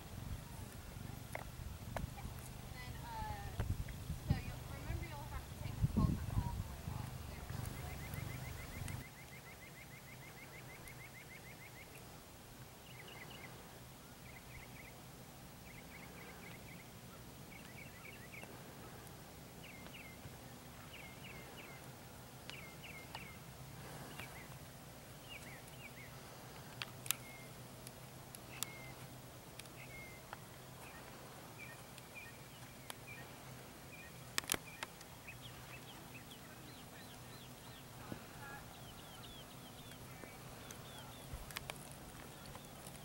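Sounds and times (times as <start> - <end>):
faint low hum: 0.0 - 43.0
songbirds singing: 2.2 - 15.0, 15.6 - 43.0.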